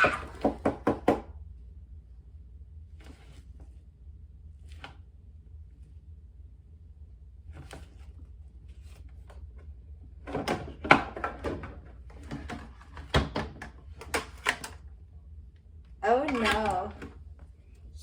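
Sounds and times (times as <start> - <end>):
low steady hum: 1.2 - 18.0.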